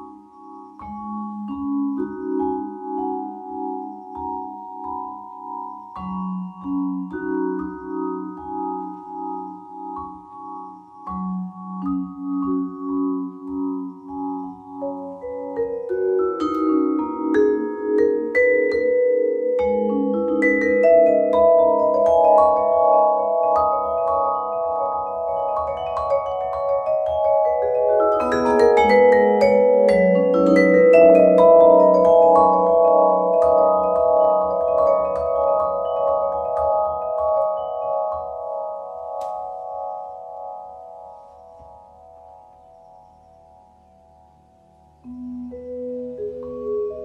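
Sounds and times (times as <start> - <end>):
vibraphone chords and melody: 0.0 - 47.0.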